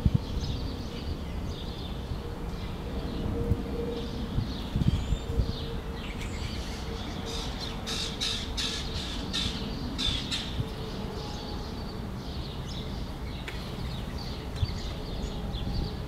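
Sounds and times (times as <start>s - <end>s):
songbirds chirping: 0.1s - 16.0s.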